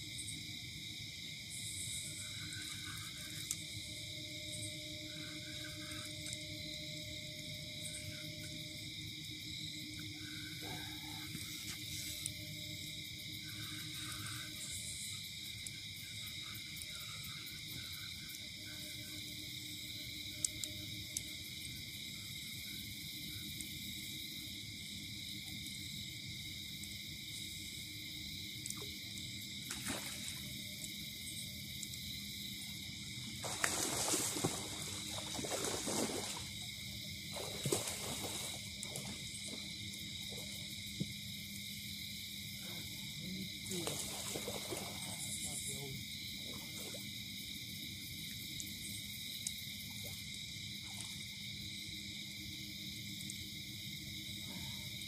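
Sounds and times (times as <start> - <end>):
night insects chirring: 0.0 - 55.0.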